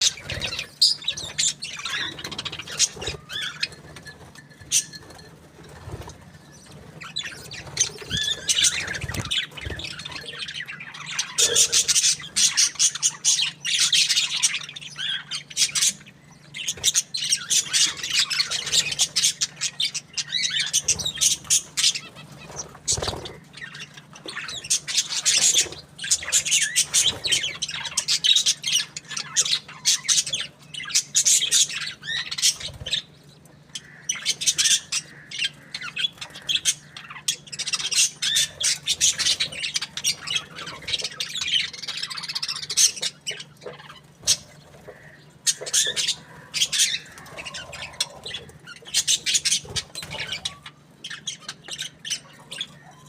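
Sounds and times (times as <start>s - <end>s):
budgies chirping and squawking: 0.0s - 53.0s.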